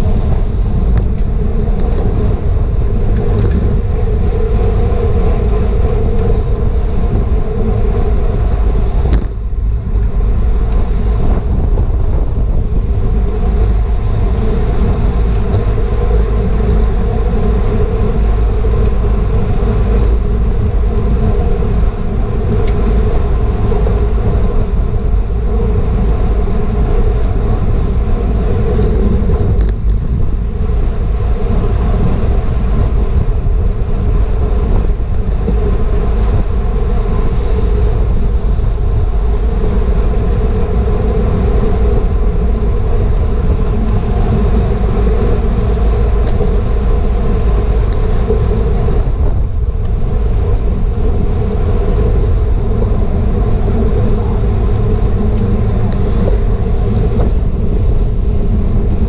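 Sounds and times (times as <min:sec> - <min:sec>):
bicycle tyre and road noise: 0:00.0 - 0:59.0
wind rush on microphone: 0:00.0 - 0:59.0.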